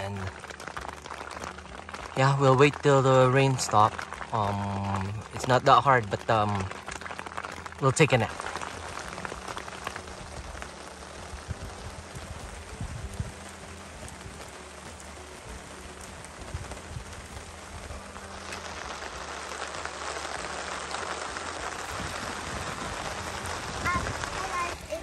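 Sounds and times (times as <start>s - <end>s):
steady rain patter: 0.0s - 25.0s.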